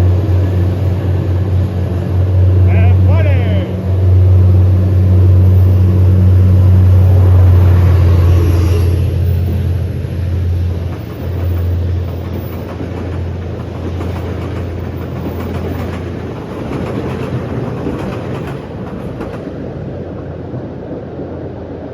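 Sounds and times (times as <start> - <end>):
train humming and rumbling: 0.0 - 21.9.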